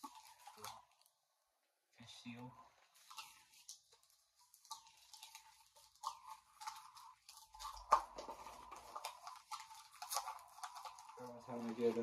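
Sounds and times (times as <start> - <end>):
snack bag crinkling: 0.0 - 1.2, 2.9 - 12.0.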